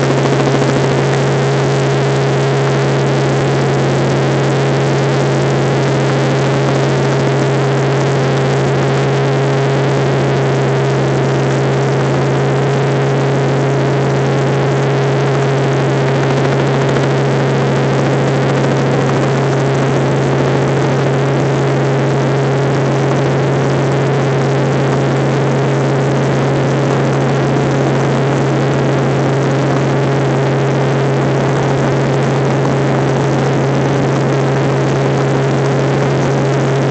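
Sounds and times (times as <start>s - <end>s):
helicopter cabin drone: 0.0s - 36.9s.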